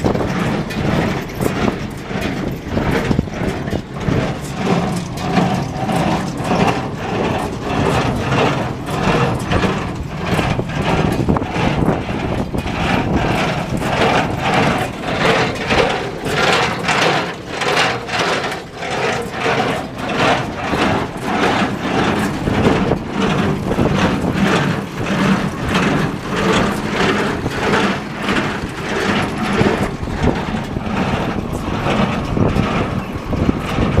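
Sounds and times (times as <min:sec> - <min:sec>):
baler mechanism beating rhythmically: 0:00.0 - 0:34.0
tractor engine humming: 0:00.0 - 0:34.0.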